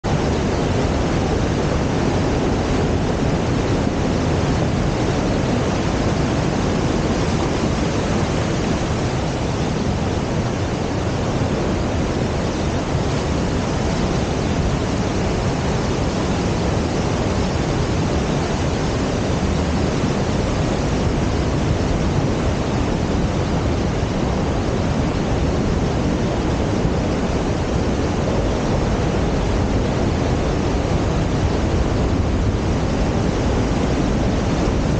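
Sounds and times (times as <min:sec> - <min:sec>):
creek rushing over waterfalls: 0:00.0 - 0:34.9.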